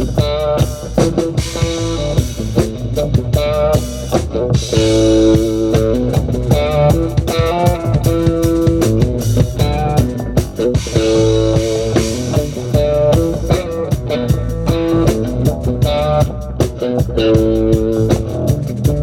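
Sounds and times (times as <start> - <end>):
live reggae band: 0.0 - 19.0.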